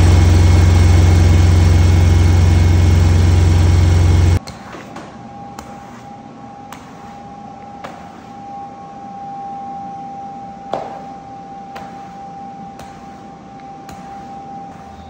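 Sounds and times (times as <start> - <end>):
machine high whine and hum: 0.0 - 4.4, 5.0 - 15.0.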